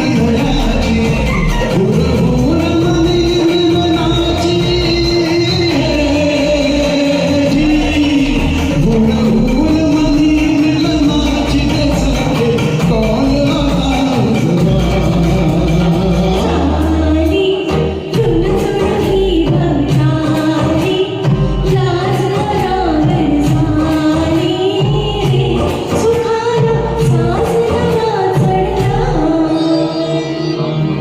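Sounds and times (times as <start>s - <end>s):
karaoke backing track: 0.0s - 31.0s
person singing: 0.0s - 31.0s.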